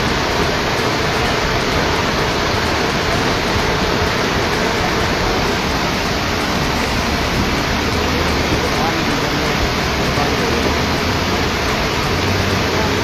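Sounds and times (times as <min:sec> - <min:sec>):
rushing floodwater roar: 0:00.0 - 0:13.0.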